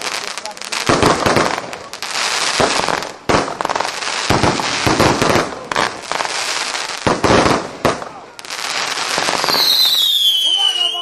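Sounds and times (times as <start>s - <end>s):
fireworks sharp pops: 0.0s - 10.5s
fireworks crackling: 0.0s - 11.0s.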